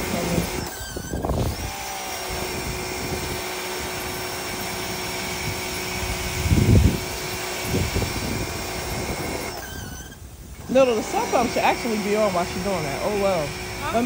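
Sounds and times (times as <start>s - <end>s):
electric pump whining: 0.0s - 14.0s.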